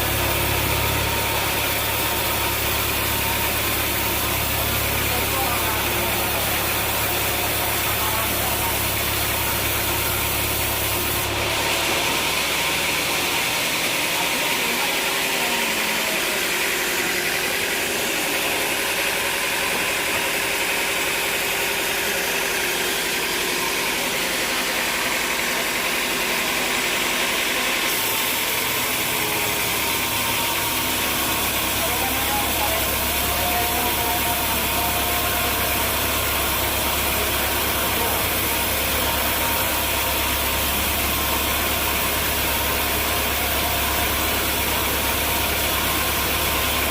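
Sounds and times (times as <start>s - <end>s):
high hissing machine noise: 0.0s - 46.9s
sawmill machinery low drone: 0.0s - 46.9s.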